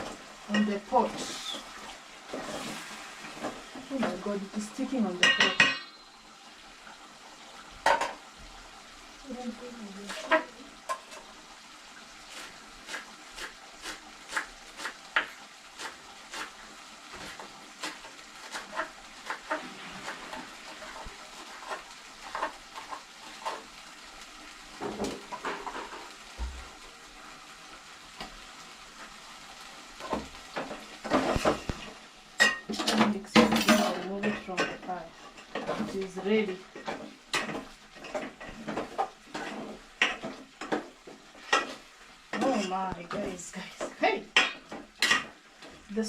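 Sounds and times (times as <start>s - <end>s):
faint sizzle: 0.0s - 46.0s.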